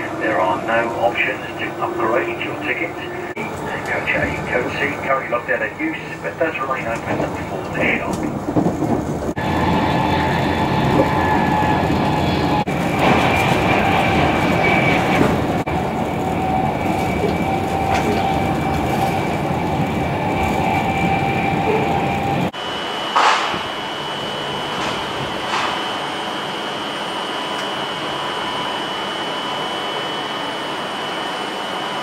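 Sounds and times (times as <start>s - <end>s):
electric train passing: 0.0s - 32.0s
train running noise: 0.0s - 32.0s.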